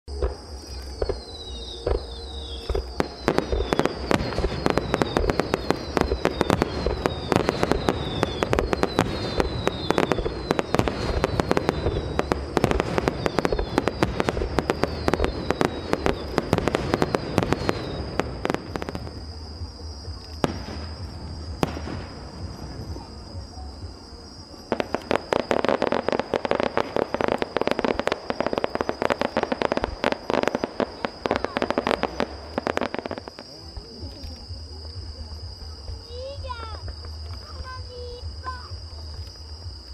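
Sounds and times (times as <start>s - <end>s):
fireworks crackling and popping: 0.1s - 39.9s
insect chirring: 0.1s - 39.9s.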